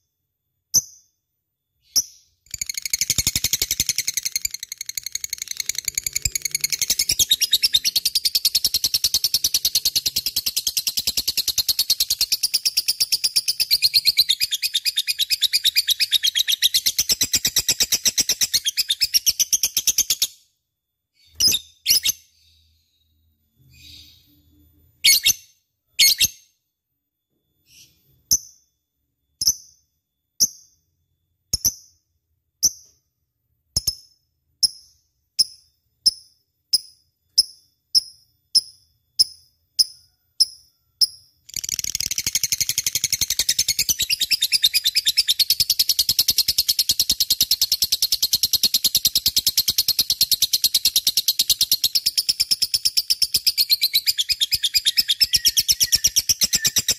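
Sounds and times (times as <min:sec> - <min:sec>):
lovebird chirping and chattering: 0:01.8 - 0:20.4, 0:21.2 - 0:22.8, 0:23.7 - 0:24.4, 0:25.0 - 0:26.5, 0:29.4 - 0:29.8, 0:33.8 - 0:56.9.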